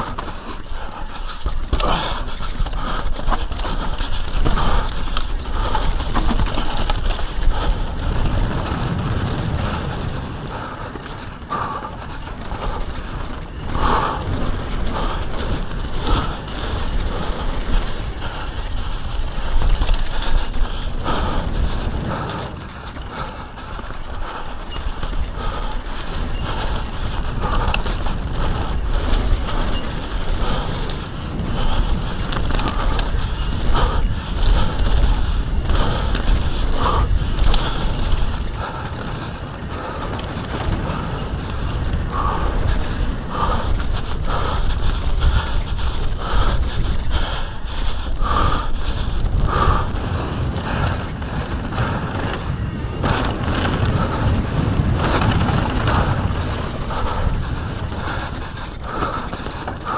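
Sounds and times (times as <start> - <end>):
bike rattling over bumps: 0.0 - 59.9
bike tyres on loose dirt: 0.0 - 59.9
wind rumbling on microphone: 0.0 - 59.9.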